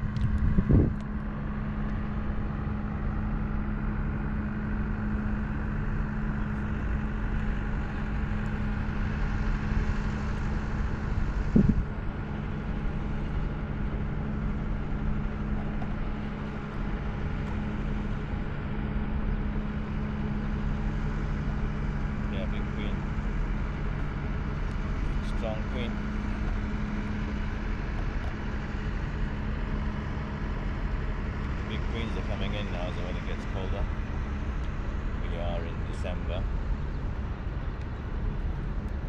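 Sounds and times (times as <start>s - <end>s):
low motor hum: 0.0s - 39.0s.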